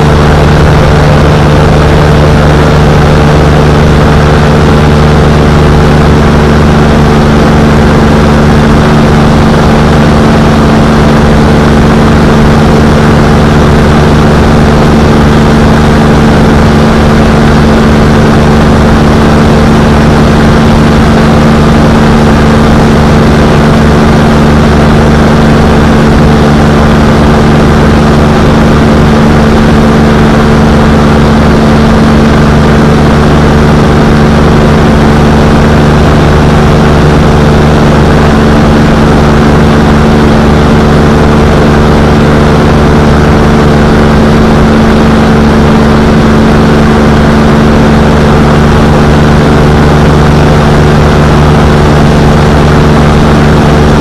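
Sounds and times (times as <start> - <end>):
ultralight engine and propeller drone: 0.0 - 54.0.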